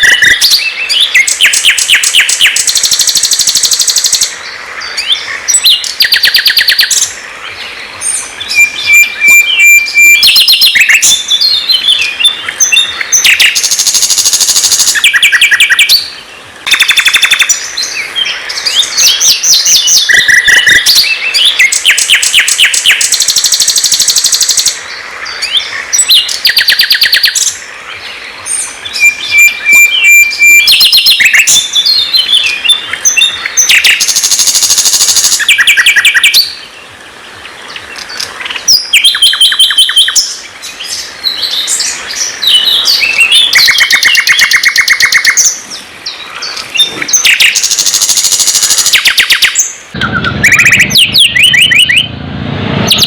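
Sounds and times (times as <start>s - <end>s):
songbird trilling and whistling: 0.0s - 7.2s, 8.0s - 36.7s, 37.7s - 52.1s.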